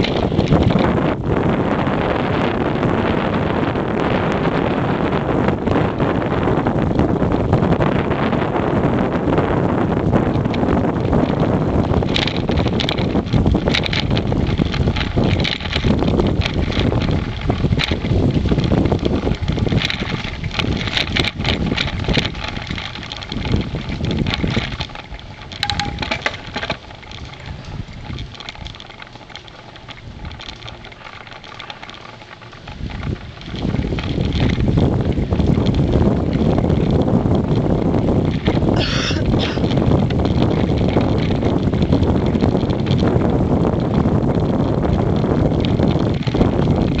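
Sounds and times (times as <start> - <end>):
bicycle rattles and clicks: 0.0 - 47.0
wind buffeting the microphone: 0.0 - 47.0.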